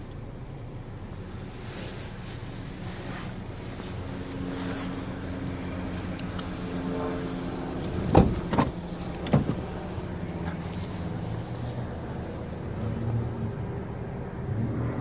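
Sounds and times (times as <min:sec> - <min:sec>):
car engine hum: 0:00.0 - 0:15.0.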